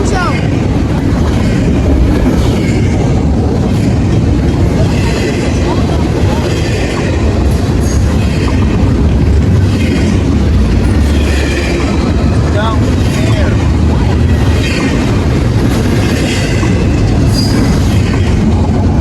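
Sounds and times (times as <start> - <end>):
clatter over rail joints: 0.0 - 19.0
train wheels rumbling on rail: 0.0 - 19.0.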